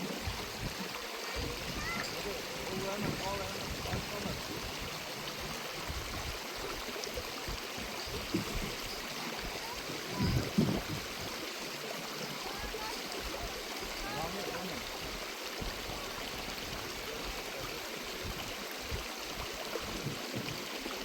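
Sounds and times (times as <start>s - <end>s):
stream running: 0.0s - 21.0s.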